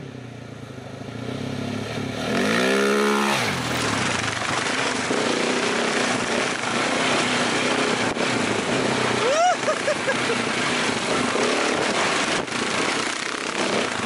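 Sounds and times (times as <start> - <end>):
motorcycle engine running: 0.0 - 14.0
wind and road noise: 0.0 - 14.0
motorcycle revving past: 0.6 - 14.0.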